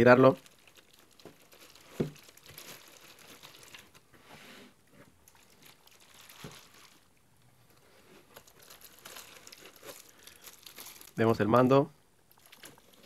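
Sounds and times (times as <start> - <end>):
plastic bags crinkling: 0.0 - 4.1, 5.1 - 11.5, 12.2 - 13.0.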